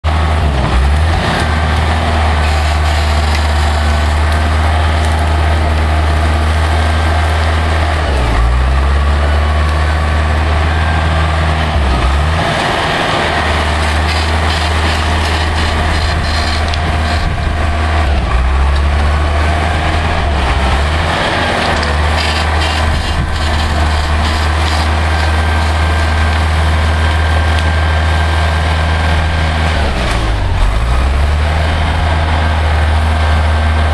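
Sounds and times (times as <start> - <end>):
bulldozer diesel engine lugging: 0.0 - 33.9
trees cracking and clanks: 0.0 - 33.9.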